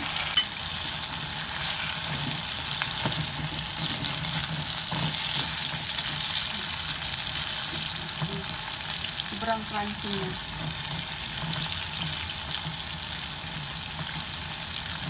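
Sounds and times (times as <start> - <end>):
meat deep-frying in oil: 0.0 - 15.0.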